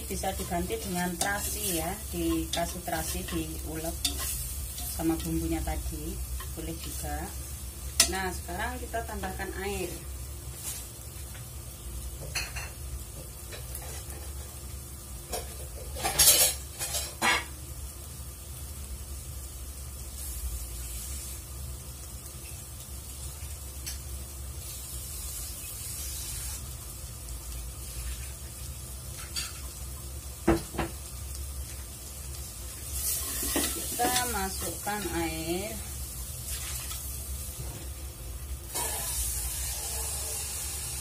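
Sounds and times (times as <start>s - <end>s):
food sizzling in a pot: 0.0s - 41.0s.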